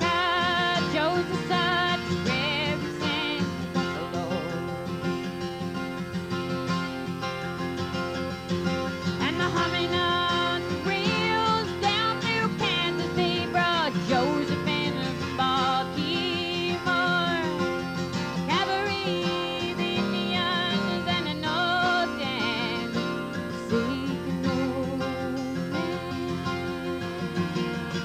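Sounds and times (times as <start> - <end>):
woman singing: 0.0 - 4.9, 9.2 - 28.0
acoustic guitar: 0.0 - 28.0.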